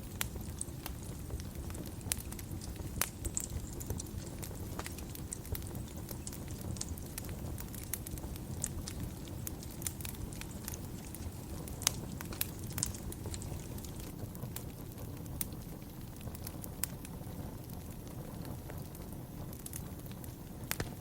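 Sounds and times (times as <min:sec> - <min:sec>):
fire popping and snapping: 0:00.0 - 0:21.0
low rumble of flame: 0:00.0 - 0:21.0
wood fire crackling: 0:00.0 - 0:21.0.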